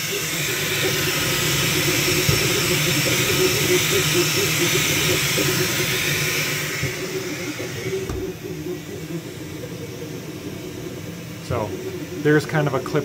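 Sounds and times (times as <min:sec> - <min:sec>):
cooling blower hissing: 0:00.0 - 0:13.0
printer motors whirring: 0:00.0 - 0:13.0.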